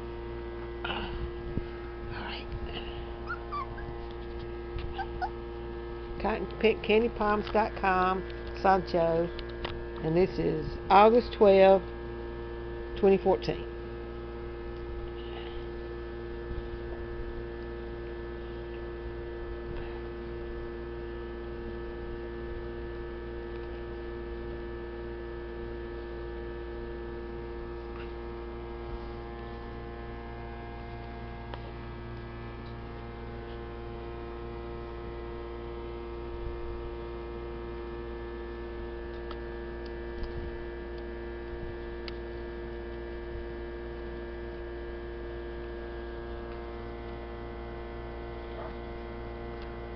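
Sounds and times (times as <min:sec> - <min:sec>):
electrical hum: 0:00.0 - 0:49.9.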